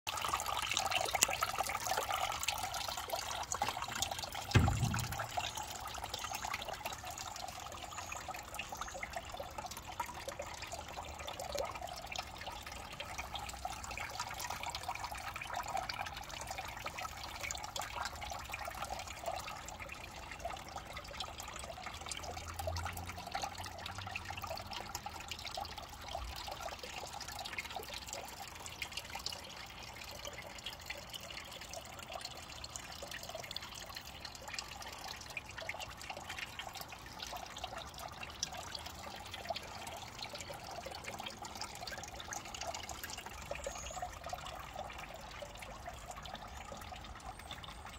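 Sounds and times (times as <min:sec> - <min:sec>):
fountain water trickling: 0:00.1 - 0:47.9.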